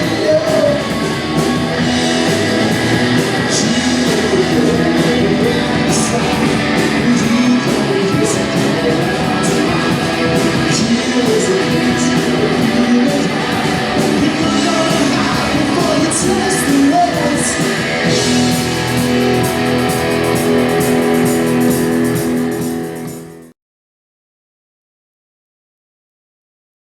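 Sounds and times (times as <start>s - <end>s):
person singing: 0.0s - 23.3s
electric guitars strumming: 0.0s - 23.5s.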